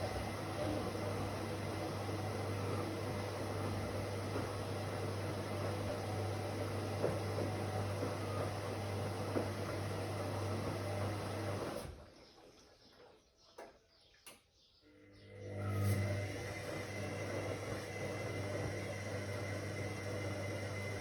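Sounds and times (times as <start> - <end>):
washing machine running: 0.0 - 12.7, 14.9 - 21.0.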